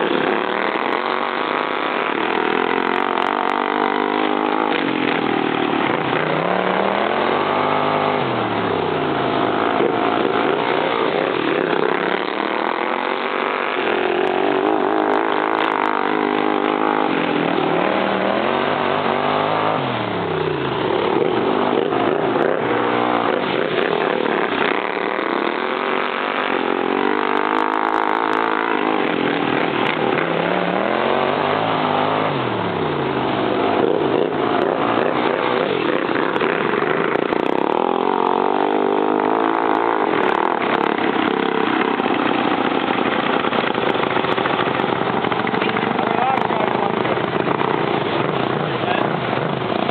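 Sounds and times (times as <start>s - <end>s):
racing lawn mower engines: 0.0s - 49.9s.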